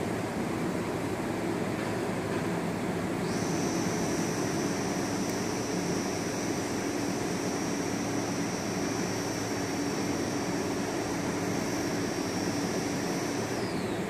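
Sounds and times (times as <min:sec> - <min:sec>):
high steady whine: 0:00.0 - 0:14.0.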